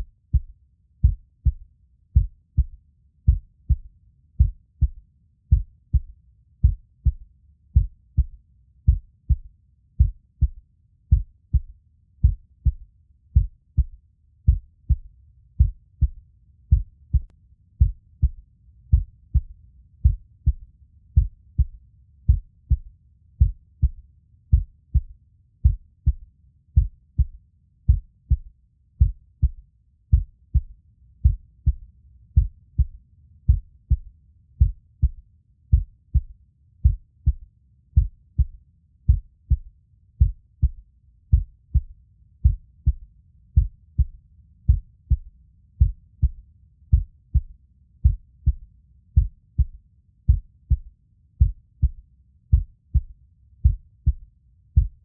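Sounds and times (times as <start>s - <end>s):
heartbeat: 0.0s - 55.0s.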